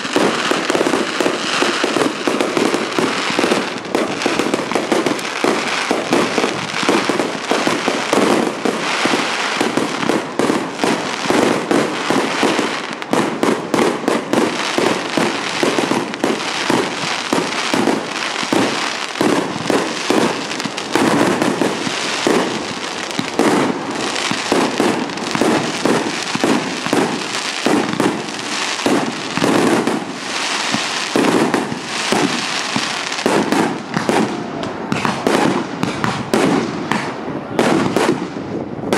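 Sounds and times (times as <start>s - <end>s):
fireworks bursts and bangs: 0.0s - 38.9s.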